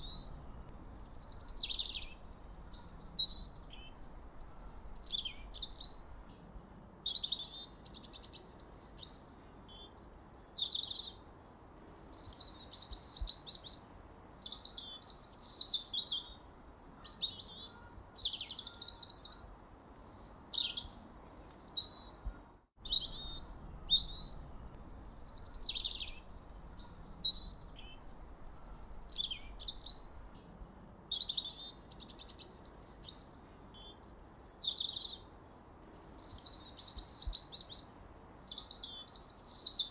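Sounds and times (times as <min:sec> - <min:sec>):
faint background hiss: 0:00.0 - 0:39.9
songbirds chirping and twittering: 0:00.0 - 0:39.9.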